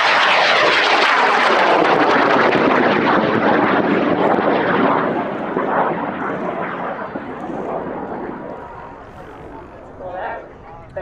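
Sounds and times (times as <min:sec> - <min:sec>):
rocket motor roaring with crackle: 0:00.0 - 0:09.9.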